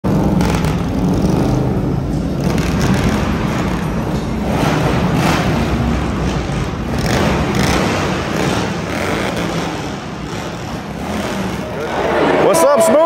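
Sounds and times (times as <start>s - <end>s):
motorcycle engines idling: 0.0s - 12.8s.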